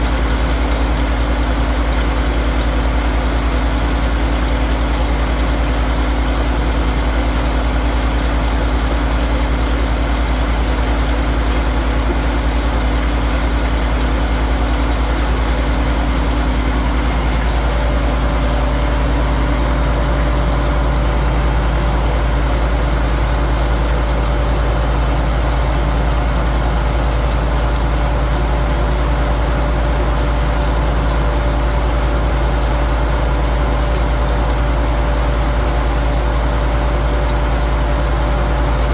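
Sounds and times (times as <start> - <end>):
firewood processor engine running: 0.0 - 38.9.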